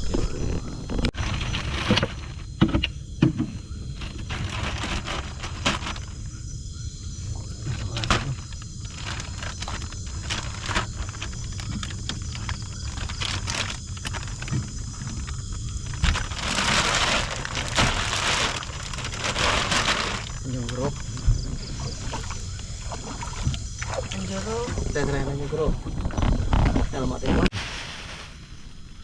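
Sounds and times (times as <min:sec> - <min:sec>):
handling knocks and rustles: 0:00.0 - 0:06.2, 0:07.4 - 0:25.0
insect chorus: 0:00.0 - 0:29.0.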